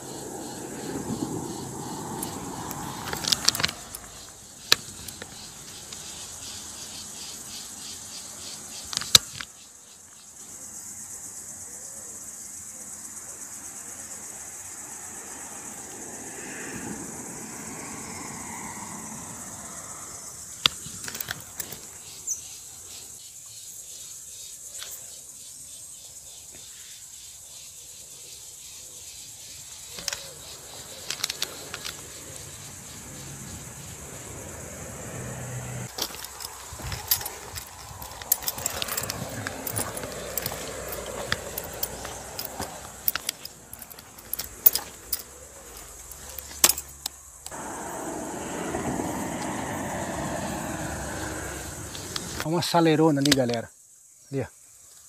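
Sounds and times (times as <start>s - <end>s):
high-pitched insect buzz: 0.0s - 52.5s.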